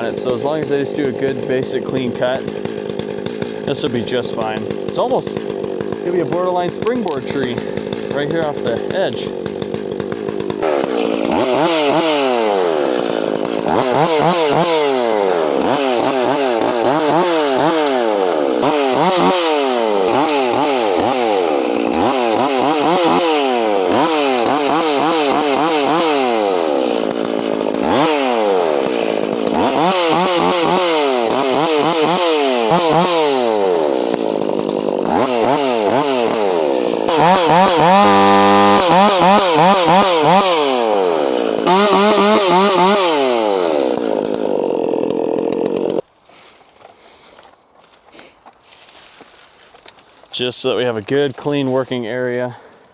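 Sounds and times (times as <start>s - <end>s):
chainsaw revving: 0.0s - 47.4s.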